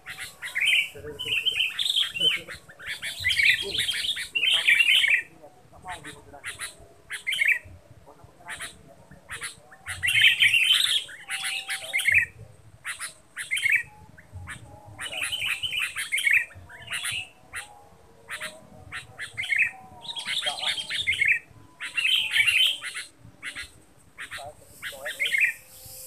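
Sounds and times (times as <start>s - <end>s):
bird harsh chattering calls: 0.0s - 26.0s.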